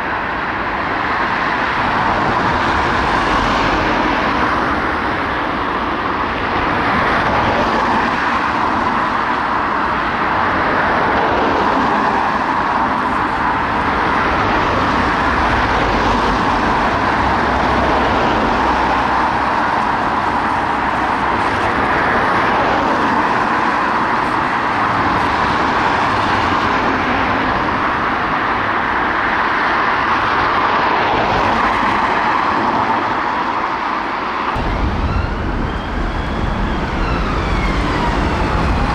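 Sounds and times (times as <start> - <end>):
cars driving past: 1.0 - 38.9.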